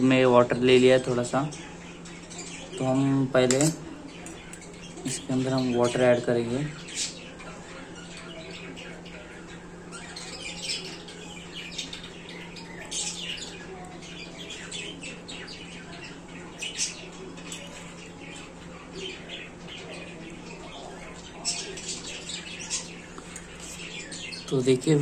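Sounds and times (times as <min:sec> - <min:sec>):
budgerigars chirping: 0:00.7 - 0:25.0.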